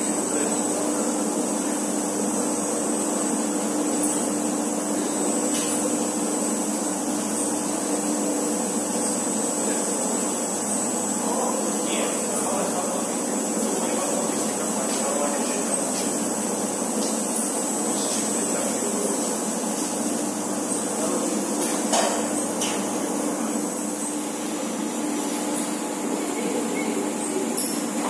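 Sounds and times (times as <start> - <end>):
machinery hiss: 0.0 - 28.0.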